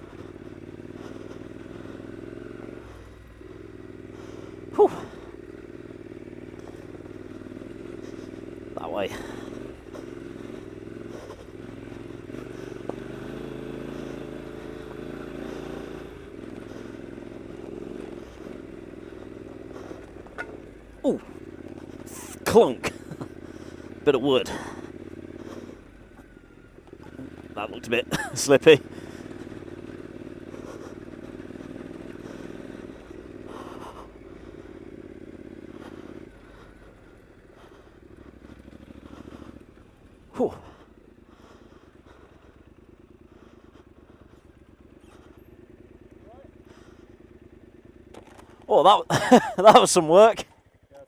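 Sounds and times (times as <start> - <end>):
motorcycle engine running at low revs: 0.0 - 51.0.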